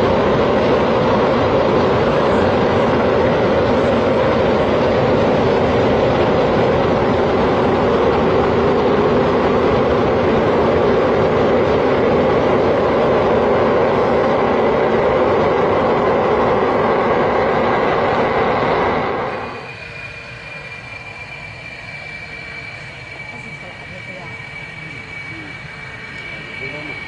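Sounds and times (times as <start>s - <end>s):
faint thin whine: 0.0s - 27.0s
jet engine roaring: 0.0s - 27.0s.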